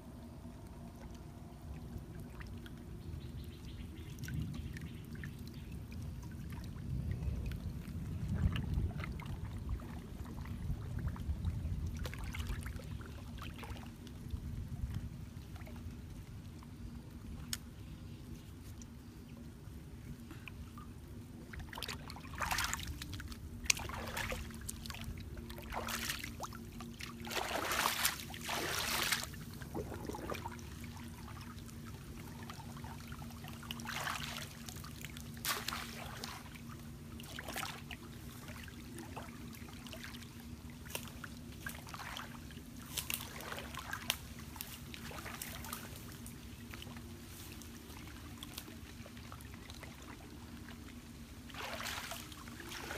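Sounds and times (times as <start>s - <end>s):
steady low hum: 0.0s - 52.9s
water splashing and sloshing: 0.0s - 52.9s.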